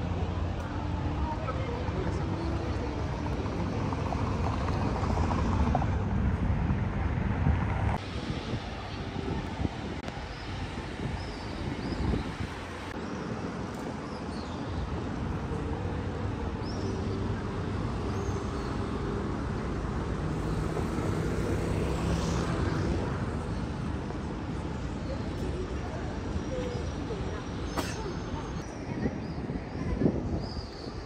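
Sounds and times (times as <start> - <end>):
city street traffic rumble: 0.0 - 31.0.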